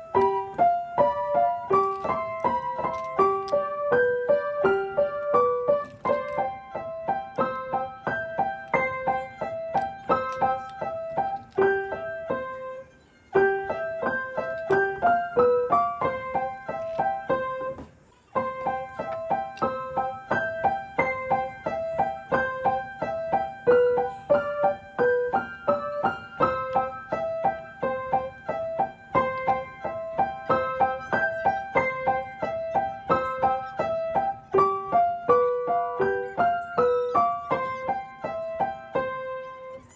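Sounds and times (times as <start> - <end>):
piano playing: 0.0 - 17.8, 18.4 - 39.9.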